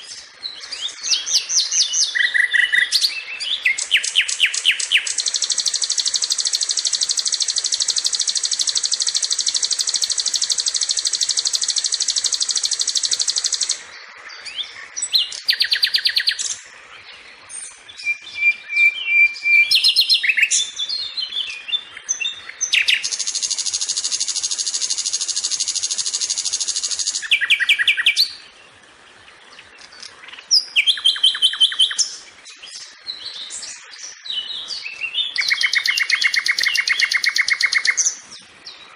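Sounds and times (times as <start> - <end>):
flycatcher singing: 0.0 - 28.6, 29.6 - 38.9.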